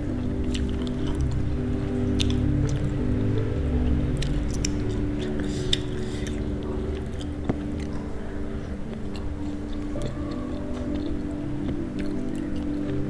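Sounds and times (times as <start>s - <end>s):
chewing and biting food: 0.3s - 13.0s.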